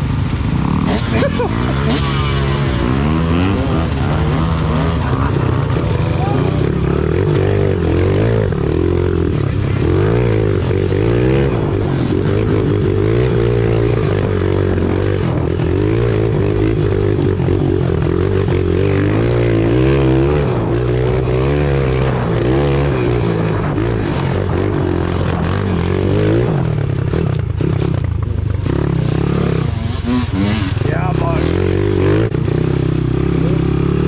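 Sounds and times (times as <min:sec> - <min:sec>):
pit bike engine revving: 0:00.0 - 0:34.0.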